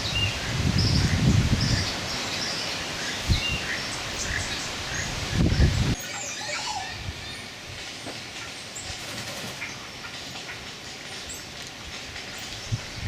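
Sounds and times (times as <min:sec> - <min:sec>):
rainforest hiss: 0:00.0 - 0:13.0.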